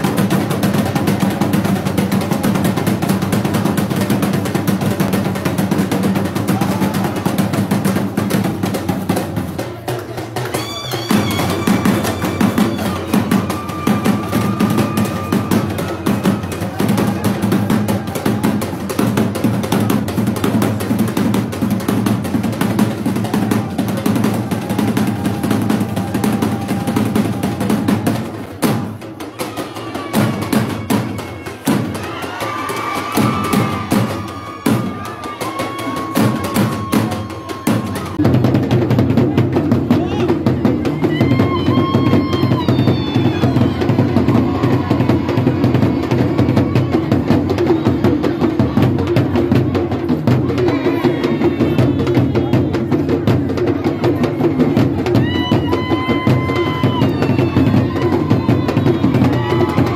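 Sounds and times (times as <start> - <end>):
fast dense drumming music: 0.0 - 59.9.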